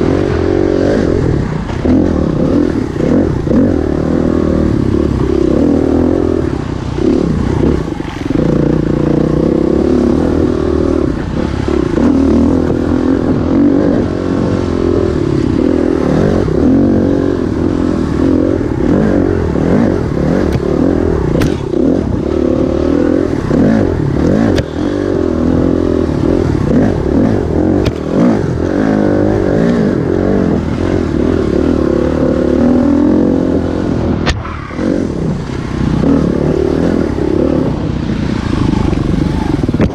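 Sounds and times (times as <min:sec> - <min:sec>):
bike rattling: 0:00.0 - 0:39.9
dirt bike engine revving: 0:00.0 - 0:39.9.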